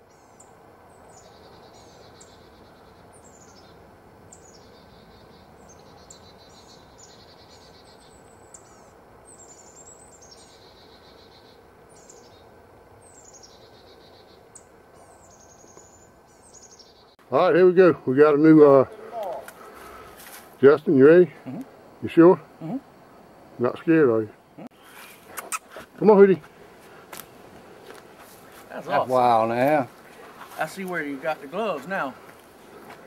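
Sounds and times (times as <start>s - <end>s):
faint background hiss: 0.0s - 33.0s
songbirds singing: 0.0s - 33.0s.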